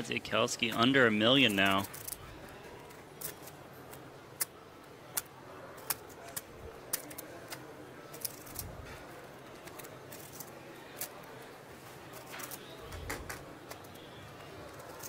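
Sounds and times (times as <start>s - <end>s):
low room murmur: 0.0s - 15.0s
poker chips clicking: 1.4s - 15.0s.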